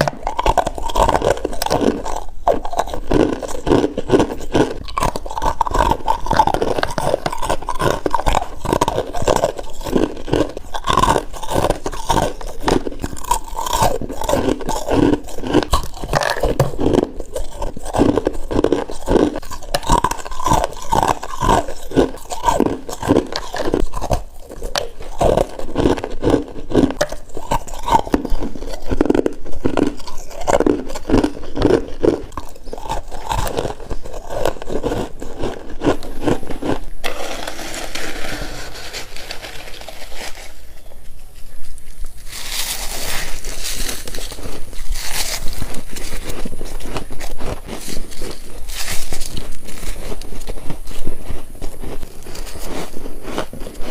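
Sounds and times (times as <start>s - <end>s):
crunching bites into frost: 0.0s - 40.5s, 42.2s - 53.9s.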